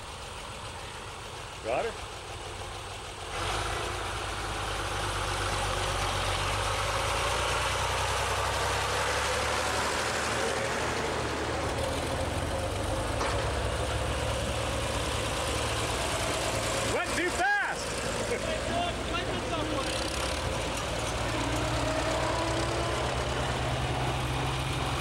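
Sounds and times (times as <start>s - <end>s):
tractor engines passing: 0.0s - 25.0s.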